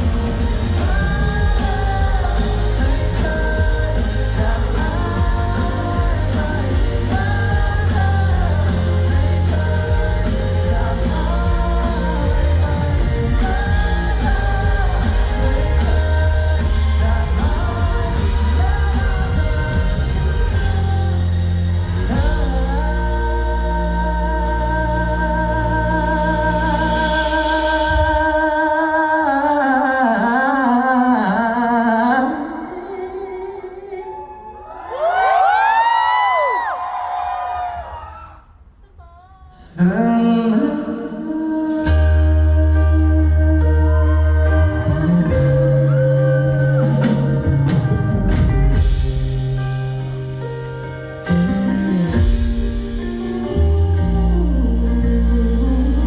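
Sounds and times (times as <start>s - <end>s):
pop-rock band playing live: 0.0s - 31.4s, 39.5s - 56.0s
person singing: 0.0s - 36.8s, 38.8s - 56.0s.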